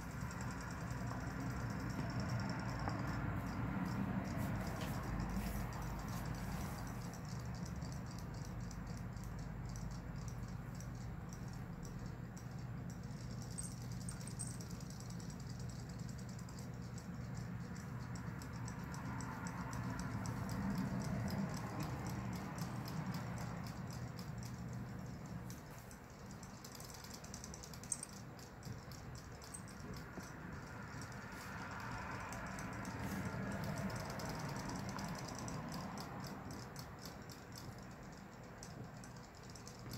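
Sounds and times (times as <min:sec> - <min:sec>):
toy motors ticking rattle: 0:00.0 - 0:39.9.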